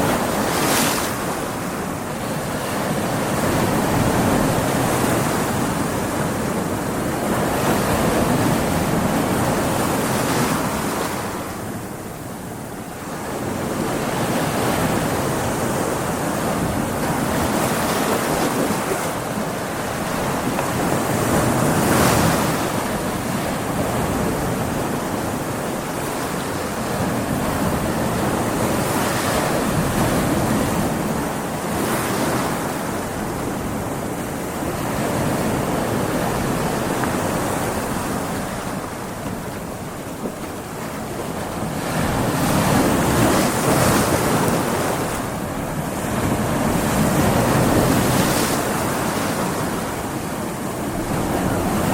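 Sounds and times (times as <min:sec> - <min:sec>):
surf and breaking waves: 0:00.0 - 0:51.9
wind: 0:00.0 - 0:51.9.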